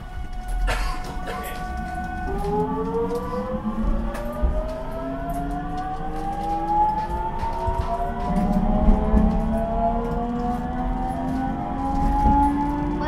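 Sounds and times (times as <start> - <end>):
wheels rumbling on rail: 0.0 - 13.0
electric train motor whining: 1.4 - 13.0.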